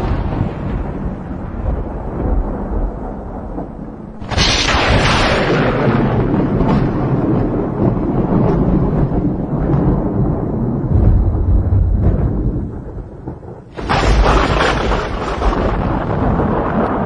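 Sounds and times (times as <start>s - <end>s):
storm wind roaring on microphone: 0.0s - 17.0s.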